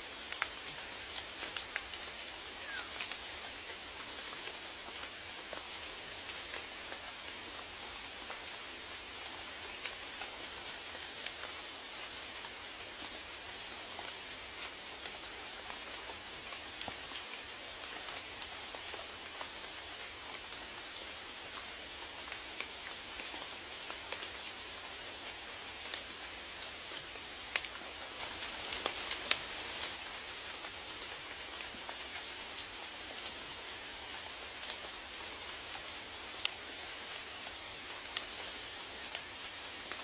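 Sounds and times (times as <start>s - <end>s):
raindrops ticking on a surface: 0.0s - 40.0s
steady rain falling: 0.0s - 40.0s.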